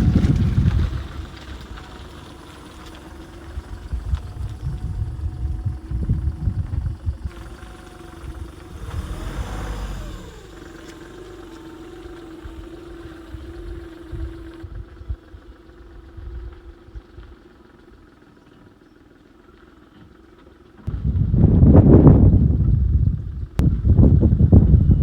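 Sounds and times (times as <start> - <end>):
car engine running: 0.0 - 21.6.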